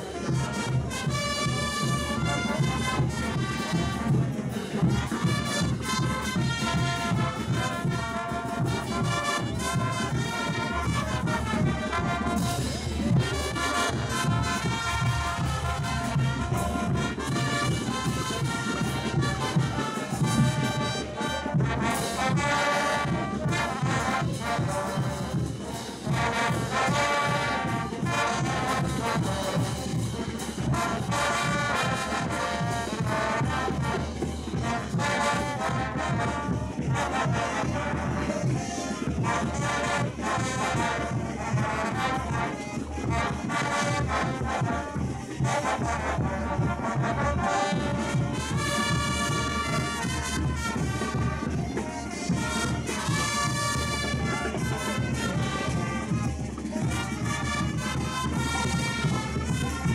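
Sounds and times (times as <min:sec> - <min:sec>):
brass band playing dance music: 0:00.0 - 0:59.9.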